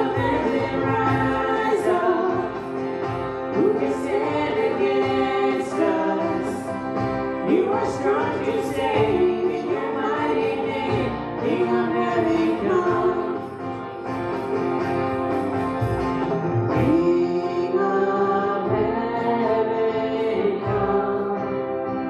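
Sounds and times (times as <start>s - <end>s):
voices singing a slow melody: 0.0s - 2.8s, 3.4s - 13.6s, 16.8s - 22.0s
band accompaniment: 0.0s - 22.0s.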